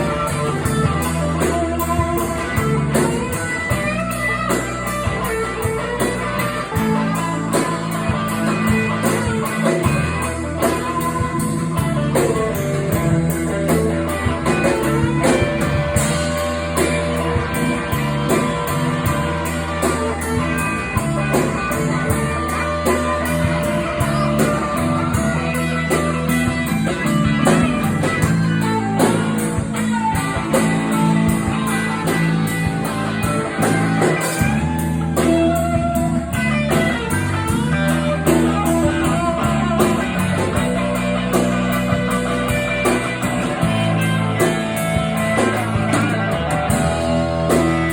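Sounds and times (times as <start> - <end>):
blues-rock band playing: 0.0 - 47.9.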